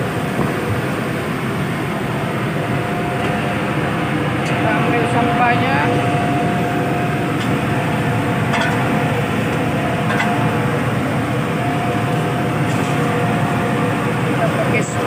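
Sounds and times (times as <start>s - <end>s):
ship machinery drone: 0.0s - 15.0s
thin steady whine: 0.0s - 15.0s.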